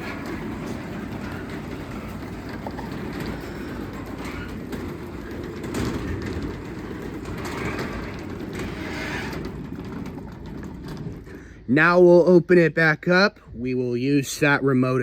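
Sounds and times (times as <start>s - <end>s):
garage door opener motor rumble: 0.0s - 12.5s
garage door rattling: 0.0s - 14.0s.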